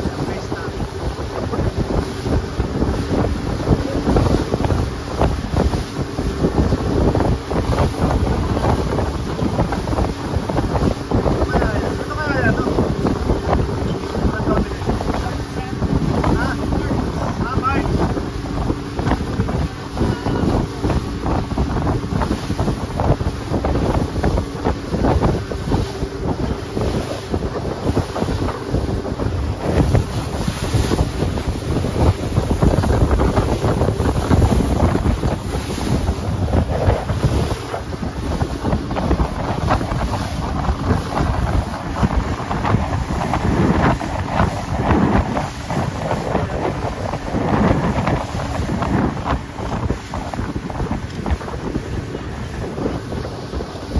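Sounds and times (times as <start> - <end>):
water rushing along boat hull: 0.0 - 53.9
wind buffeting microphone: 0.0 - 53.9.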